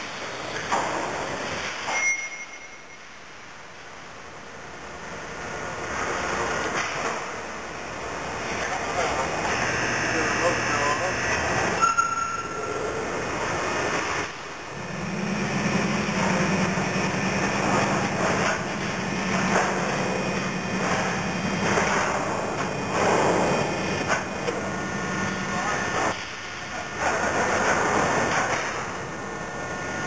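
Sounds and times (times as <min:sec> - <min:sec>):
pulsing low mechanical hum: 0:04.1 - 0:30.0.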